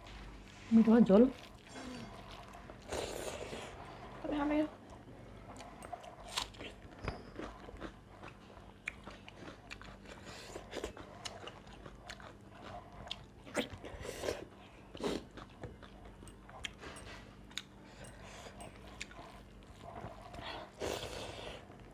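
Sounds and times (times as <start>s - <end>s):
chewing and biting: 1.3s - 21.9s.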